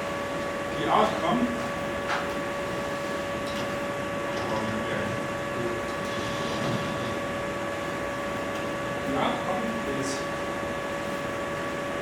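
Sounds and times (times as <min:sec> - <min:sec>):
steady hum tone: 0:00.0 - 0:12.0.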